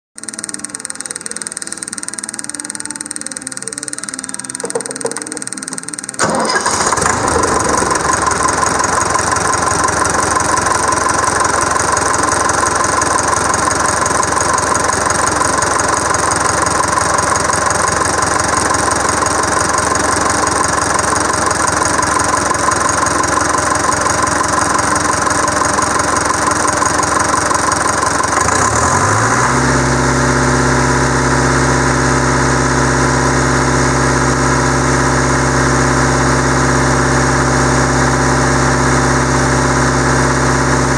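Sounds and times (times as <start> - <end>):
diesel engine starting and running: 0.2 - 40.9.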